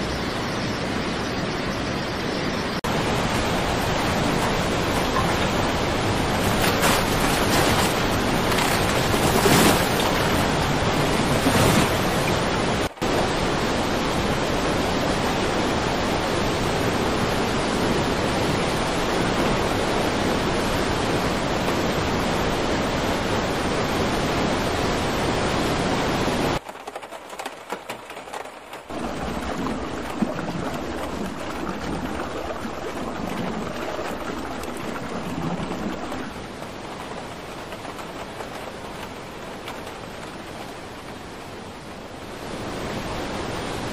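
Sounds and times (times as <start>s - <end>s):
floodwater rushing: 2.7s - 43.9s.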